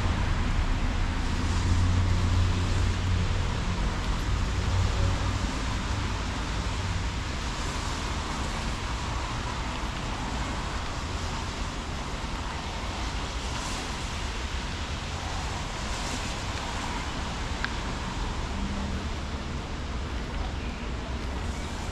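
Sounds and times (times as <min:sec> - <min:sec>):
distant road traffic rumble: 0:00.0 - 0:21.9.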